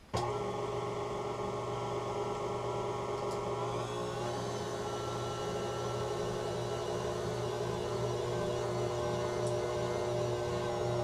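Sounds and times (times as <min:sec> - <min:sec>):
stand mixer motor humming: 0:00.1 - 0:11.0.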